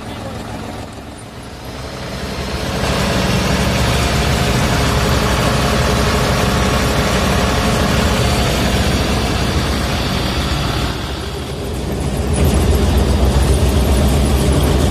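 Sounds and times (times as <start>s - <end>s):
diesel tractor engine revving: 0.0s - 14.9s.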